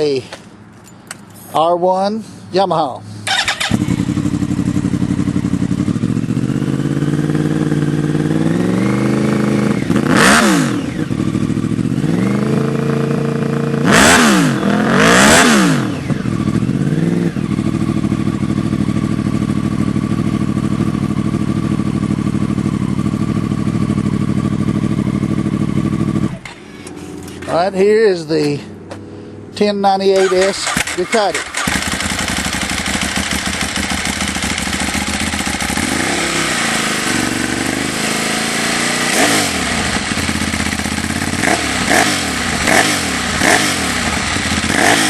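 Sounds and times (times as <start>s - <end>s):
motorcycle engine idling and revving: 3.2s - 45.0s.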